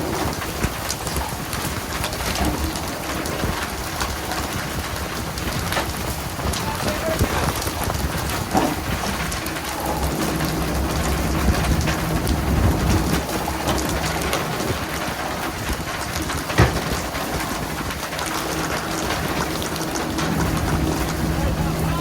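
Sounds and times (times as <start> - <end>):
low rumble: 0.0 - 22.0
water pattering on a surface: 0.0 - 22.0.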